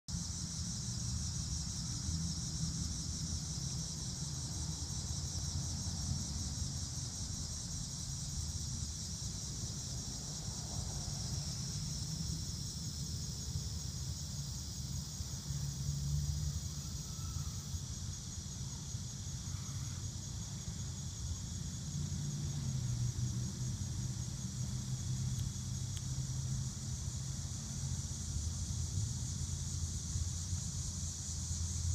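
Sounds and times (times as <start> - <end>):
high-pitched insect chorus: 0.1 - 31.9.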